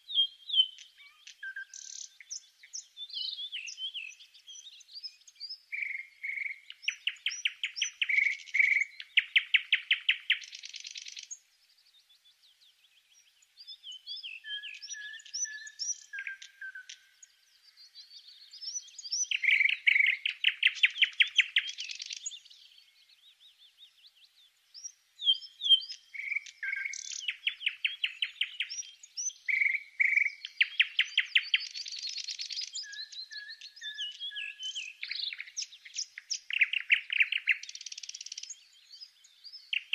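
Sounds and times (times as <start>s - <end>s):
songbird singing trills and chirps: 0.0s - 39.9s.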